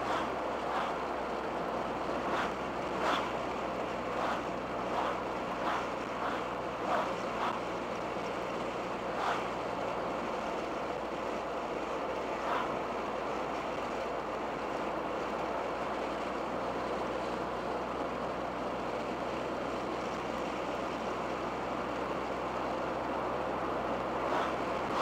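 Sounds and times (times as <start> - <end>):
car engine low hum: 0.0 - 25.0
road and wind noise: 0.0 - 25.0.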